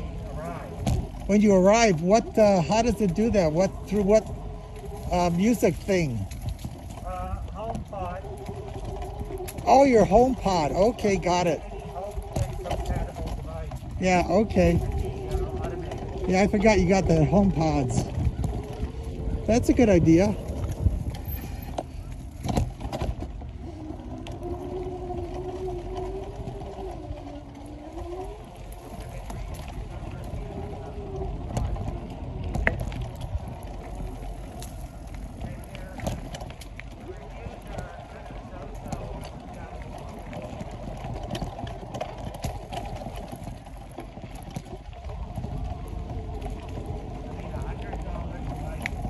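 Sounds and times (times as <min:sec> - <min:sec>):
bike knocking over bumps: 0:00.0 - 0:04.9, 0:06.3 - 0:49.0
bike tyre and wind rumble: 0:00.0 - 0:49.0
small clicks and rattles: 0:00.0 - 0:49.0.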